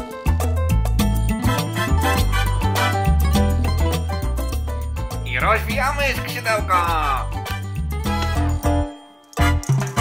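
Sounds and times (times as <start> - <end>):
upbeat music with strong bass: 0.0 - 10.0.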